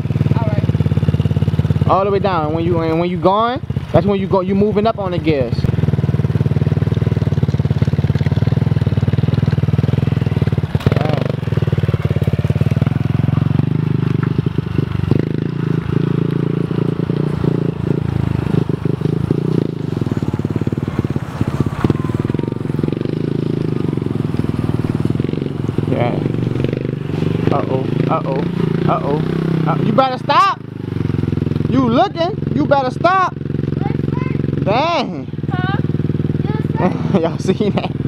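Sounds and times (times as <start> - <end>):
mini dirt bike engine running: 0.0 - 38.0.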